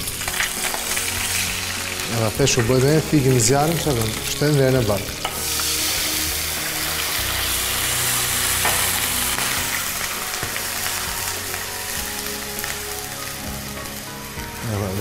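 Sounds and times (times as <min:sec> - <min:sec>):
fish sizzling in a frying pan: 0:00.0 - 0:15.0.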